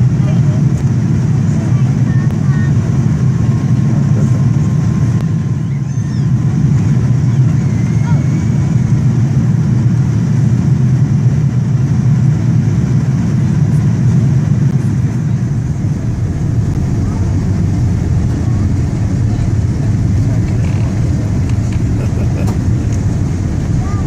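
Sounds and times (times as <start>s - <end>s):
airliner engine rumble in cabin: 0.0s - 24.0s.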